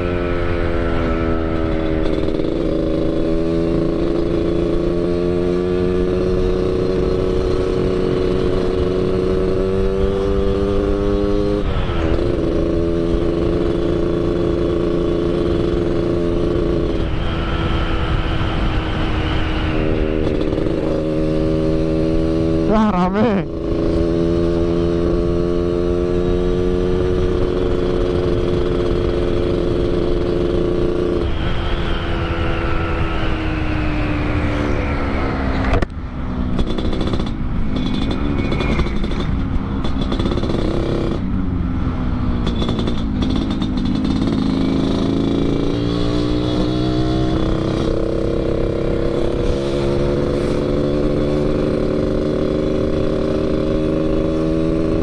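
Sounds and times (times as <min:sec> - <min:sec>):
two-stroke motorcycle engine: 0:00.0 - 0:55.0.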